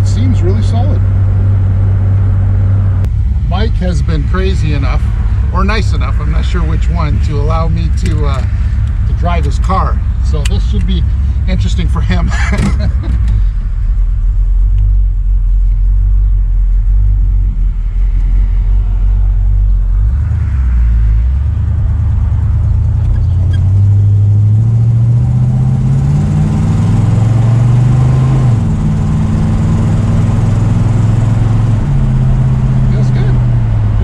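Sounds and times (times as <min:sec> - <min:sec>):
car engine rumbling while driving: 0:00.0 - 0:34.0.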